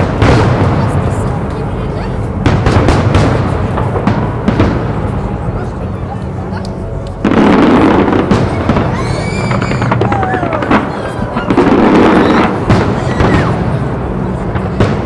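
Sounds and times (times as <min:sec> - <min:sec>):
fireworks crackling and popping: 0:00.0 - 0:15.0
fireworks exploding: 0:00.0 - 0:15.0.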